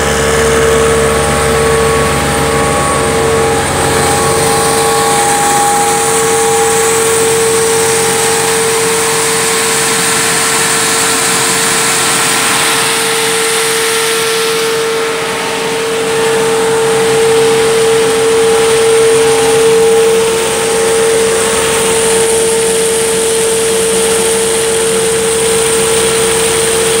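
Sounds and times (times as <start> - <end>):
mill grinding with high whine: 0.0 - 27.0
tractor engine drone: 0.0 - 27.0.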